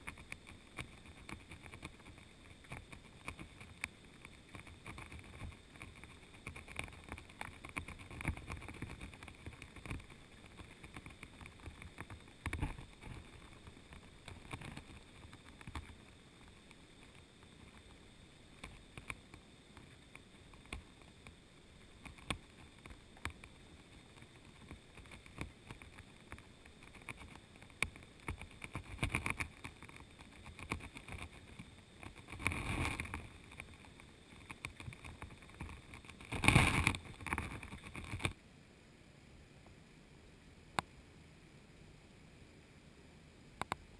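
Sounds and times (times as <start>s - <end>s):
small underwater clicks and knocks: 0.0s - 38.4s, 43.6s - 43.9s.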